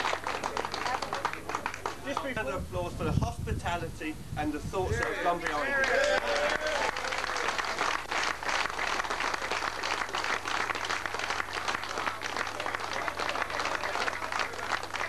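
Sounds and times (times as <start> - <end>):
small crowd applauding: 0.0 - 2.4, 4.9 - 15.0.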